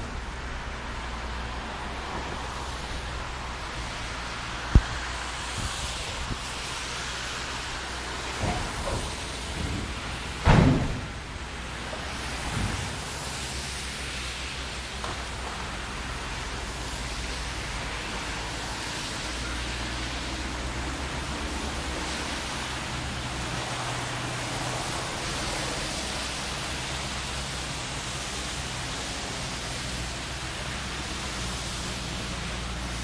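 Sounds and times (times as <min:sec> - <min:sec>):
excavator diesel engine drone: 0:00.0 - 0:33.0
steady hiss: 0:00.0 - 0:33.0.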